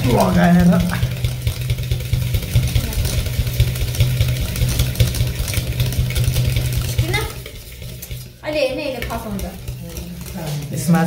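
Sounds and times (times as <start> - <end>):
small engine pulsing hum: 0.0 - 11.0.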